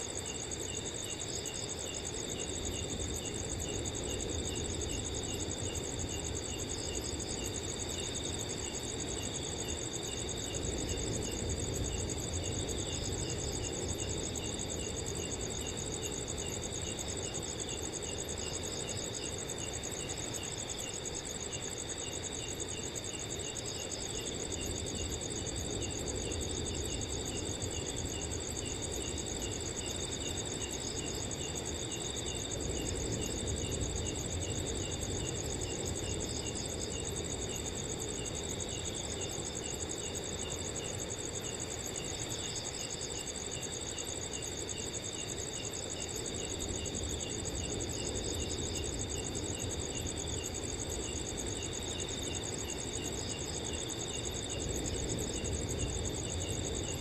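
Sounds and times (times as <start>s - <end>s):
cricket chirping: 0.0s - 57.0s
cricket pulsing: 0.0s - 57.0s
crickets trilling: 0.0s - 57.0s.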